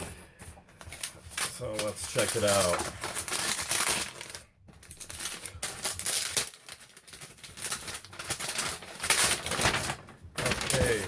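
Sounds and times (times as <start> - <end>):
packing peanuts rustling: 0.8 - 11.0.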